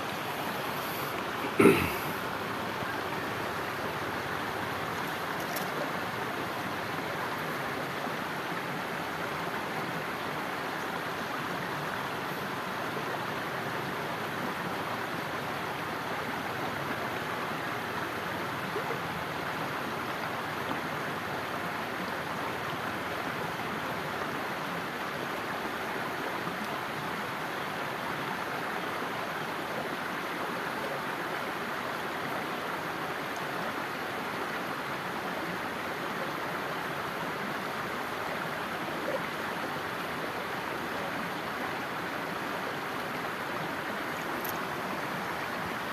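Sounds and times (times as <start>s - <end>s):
stream running over stones: 0.0s - 45.9s.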